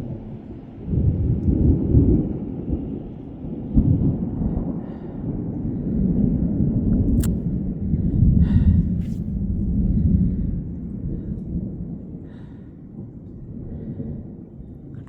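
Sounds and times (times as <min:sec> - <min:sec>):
thunder clap: 0:00.0 - 0:15.0
thunder rumbling: 0:00.0 - 0:15.0.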